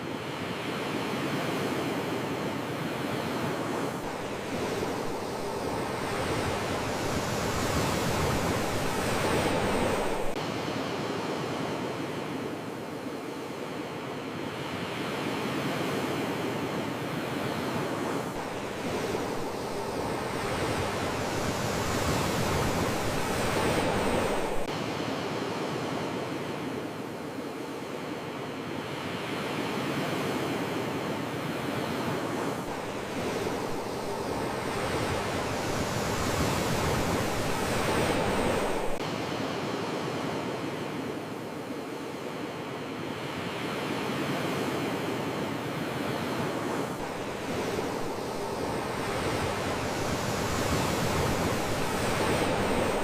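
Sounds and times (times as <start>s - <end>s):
sea waves washing on shore: 0.0s - 53.0s.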